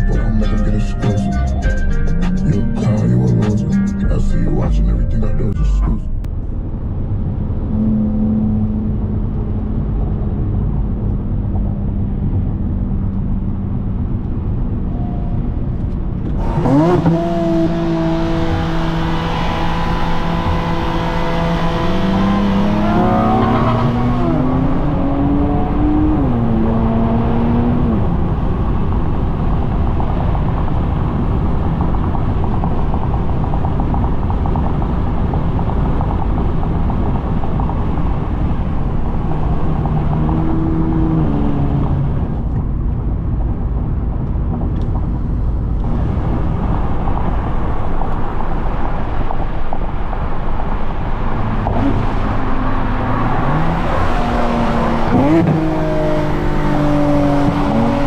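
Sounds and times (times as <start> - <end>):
car engine accelerating: 0.0 - 58.0
road and wind noise: 0.0 - 58.0.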